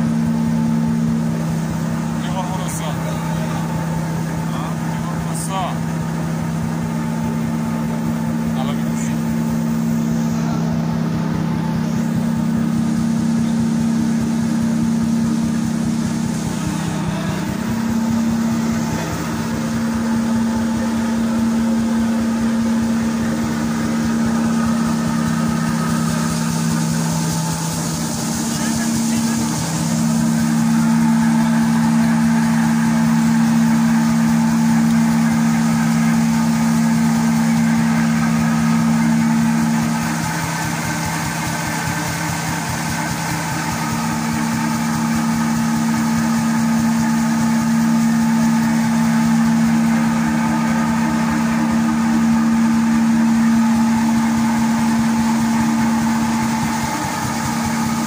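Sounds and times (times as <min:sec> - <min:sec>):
machine humming: 0:00.0 - 0:58.0.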